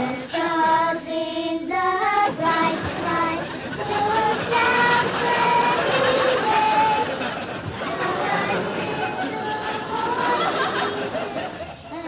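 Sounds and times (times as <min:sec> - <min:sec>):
children singing a carol: 0:00.0 - 0:12.0.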